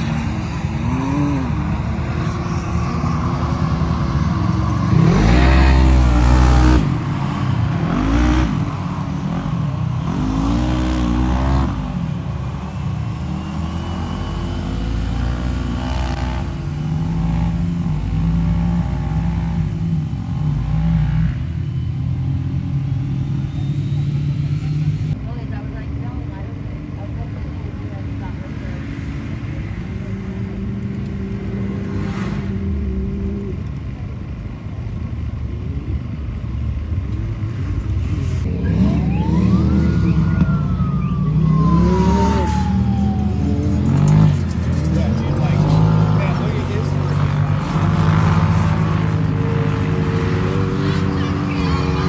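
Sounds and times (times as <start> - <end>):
off-road engines revving and passing: 0.0 - 52.0.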